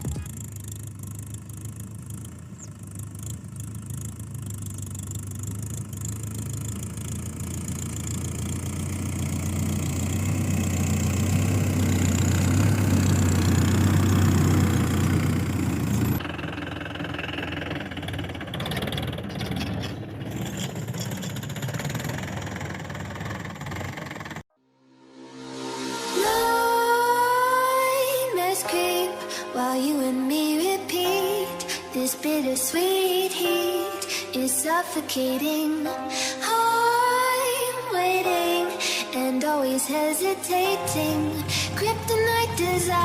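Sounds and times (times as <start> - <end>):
tractor diesel engine running: 0.0 - 24.5, 27.9 - 43.0.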